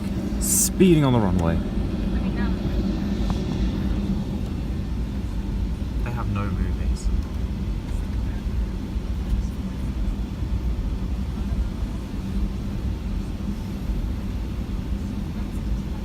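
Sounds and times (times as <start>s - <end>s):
aircraft cabin rumble: 0.0s - 16.0s
faint steady hums: 0.0s - 16.0s.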